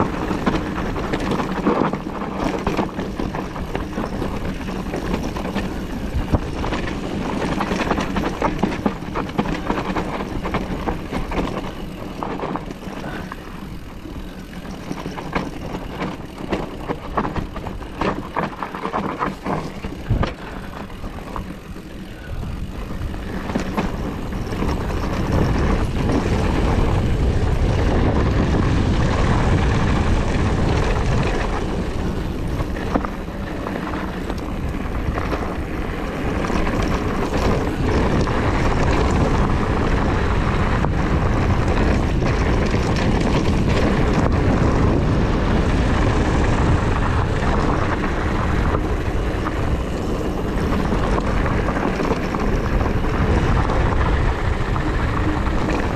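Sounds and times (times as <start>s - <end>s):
bike rattling: 0.0s - 55.9s
wind buffeting microphone: 0.0s - 55.9s.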